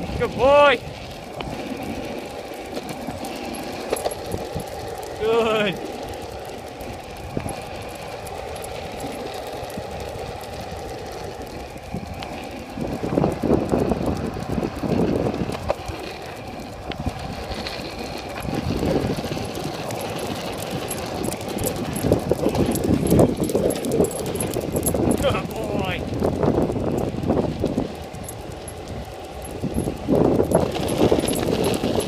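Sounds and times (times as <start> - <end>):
skateboard wheels rolling on asphalt: 0.0 - 32.0.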